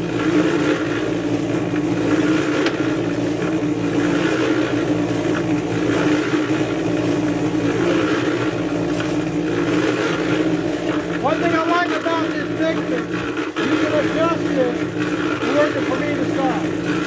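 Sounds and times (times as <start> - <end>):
electric cement mixer running: 0.0 - 17.0.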